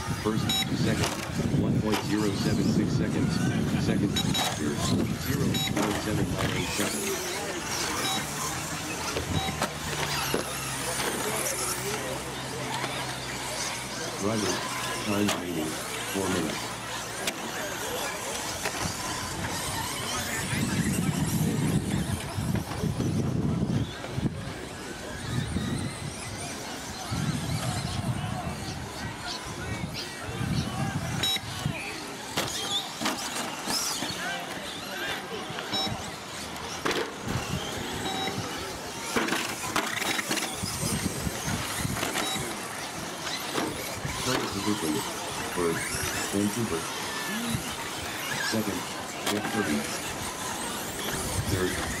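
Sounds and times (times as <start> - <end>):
rc truck motors whining: 0.0 - 52.0.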